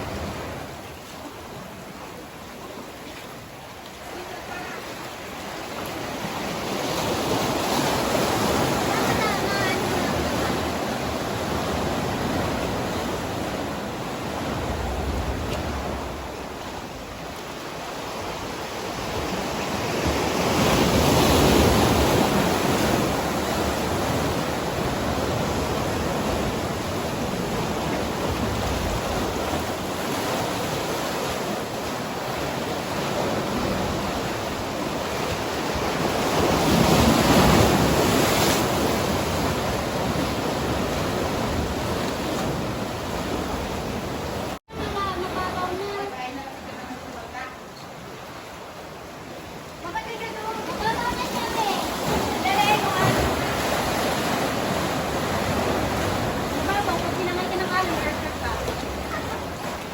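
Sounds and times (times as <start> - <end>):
sea waves washing: 0.0 - 59.9.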